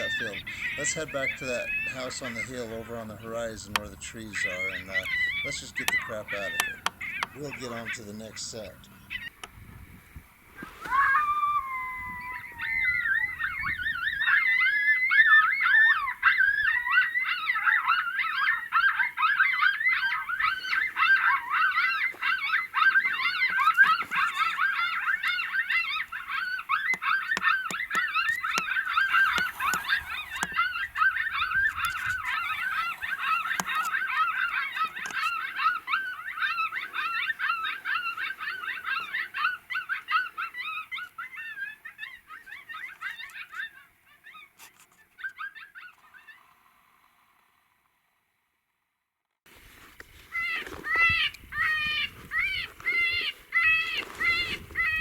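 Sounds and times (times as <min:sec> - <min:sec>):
coyotes yipping and howling: 0:00.0 - 0:47.3, 0:50.0 - 0:55.0.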